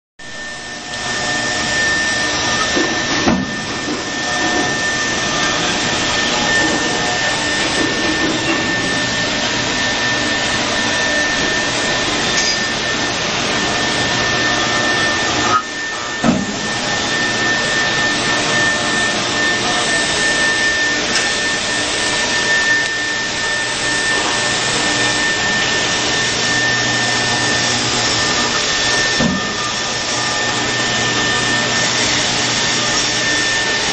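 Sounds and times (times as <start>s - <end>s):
router spindle whine: 0.2s - 33.9s.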